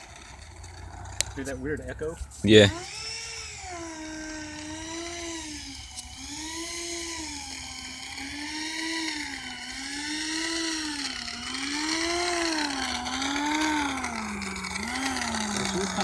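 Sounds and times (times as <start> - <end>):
electric ducted fan whining: 0.0 - 16.0.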